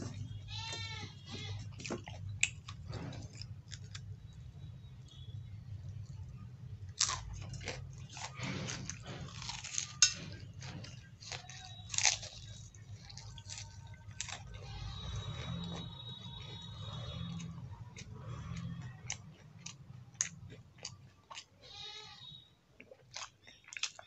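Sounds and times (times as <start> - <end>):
man chewing crunchy food: 0.0 - 24.0.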